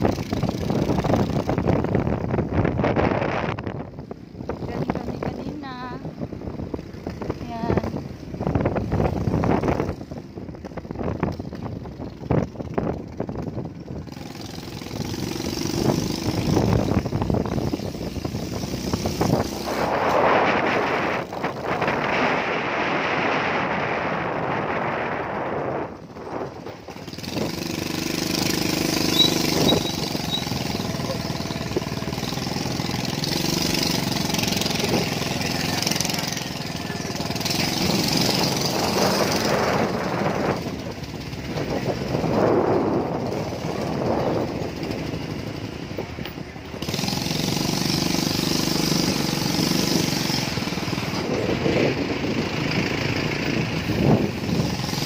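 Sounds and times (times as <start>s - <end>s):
road and wind noise: 0.0s - 55.0s
small motorcycle engine running: 0.0s - 55.0s.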